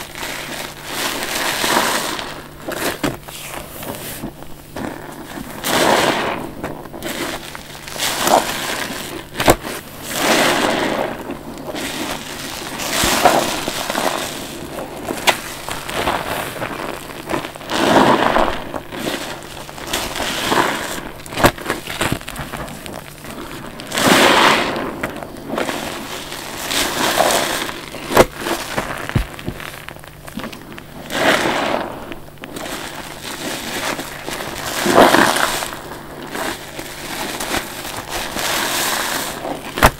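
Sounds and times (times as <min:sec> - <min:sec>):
wet sponge squelching: 0:00.0 - 0:39.9.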